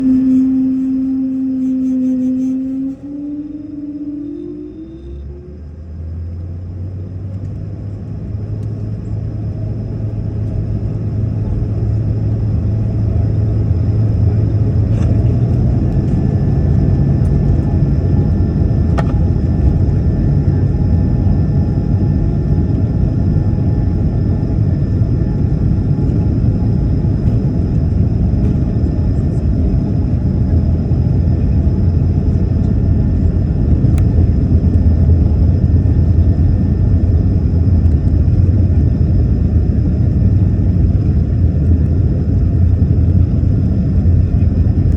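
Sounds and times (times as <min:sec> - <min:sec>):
jet engines deep rumble: 0:00.0 - 0:44.9.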